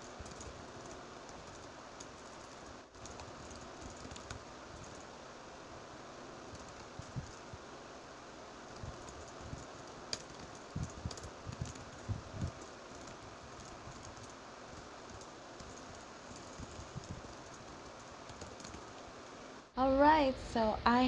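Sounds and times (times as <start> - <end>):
laptop keyboard typing: 0.0 - 5.2, 6.4 - 7.6, 8.6 - 19.3
steady low hiss: 0.0 - 21.0.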